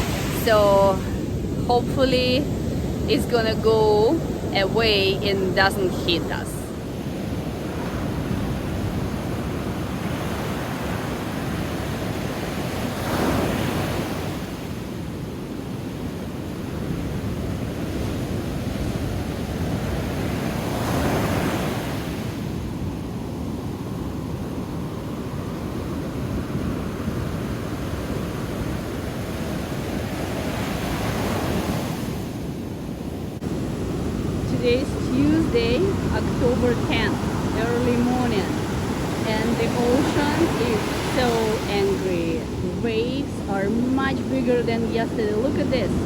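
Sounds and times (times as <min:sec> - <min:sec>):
heavy waves crashing: 0:00.0 - 0:46.0
wind rumbling on microphone: 0:00.0 - 0:46.0.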